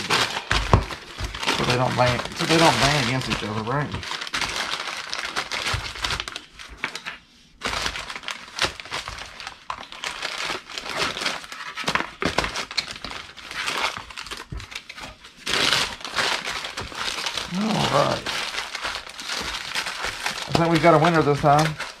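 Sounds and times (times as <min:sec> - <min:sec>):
paper crumpling and rustling: 0:00.0 - 0:22.0.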